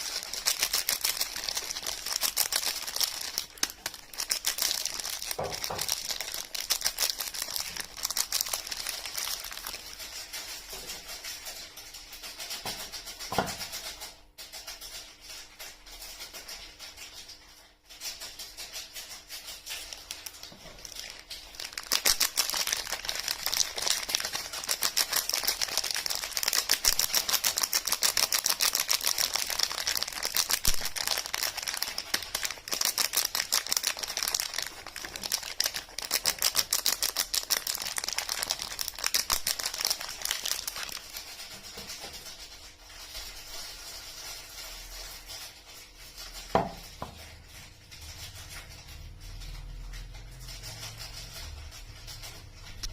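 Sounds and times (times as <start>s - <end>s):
soap wrapping crackling: 0.0s - 11.6s, 16.1s - 49.9s.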